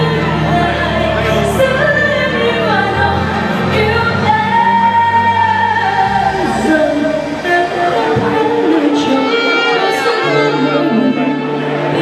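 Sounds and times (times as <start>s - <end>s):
backing music: 0.0s - 12.0s
woman singing: 0.0s - 12.0s.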